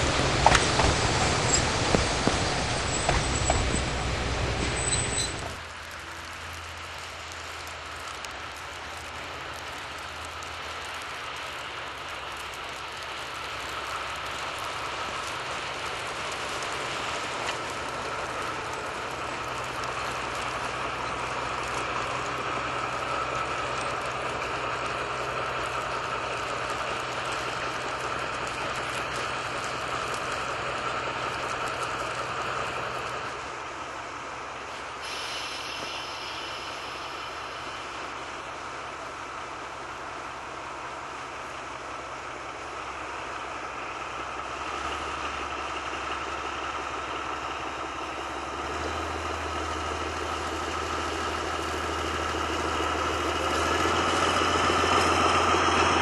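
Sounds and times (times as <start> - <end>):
diesel train engine hum: 0.0 - 56.0
rail noise: 0.0 - 56.0.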